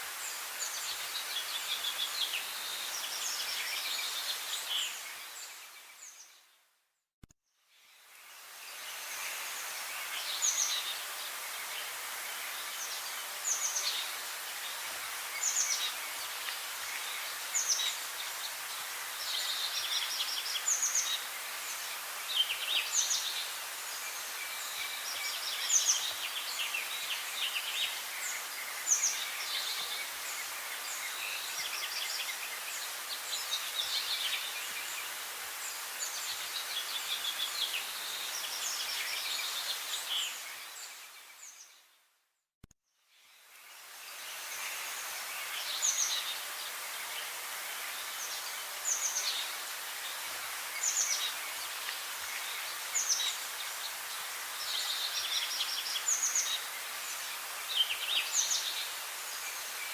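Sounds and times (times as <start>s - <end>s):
songbirds singing: 0.0s - 6.6s, 7.5s - 42.0s, 43.1s - 59.9s
background hiss: 0.0s - 6.7s, 7.6s - 42.0s, 43.1s - 59.9s.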